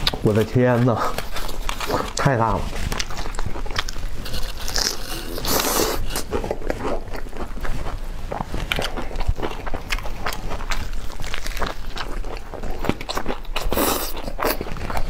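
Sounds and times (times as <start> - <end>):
person biting and chewing burger: 0.0 - 15.0.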